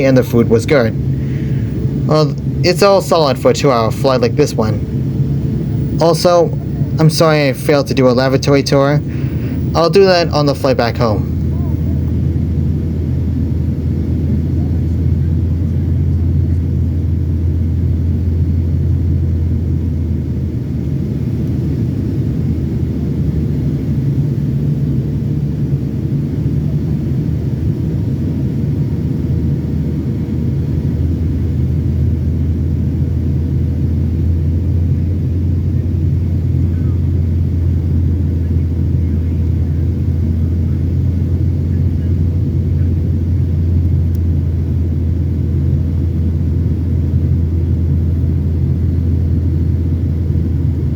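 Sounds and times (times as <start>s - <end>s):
airliner cabin noise: 0.0s - 50.9s
faint steady hum: 0.0s - 50.9s.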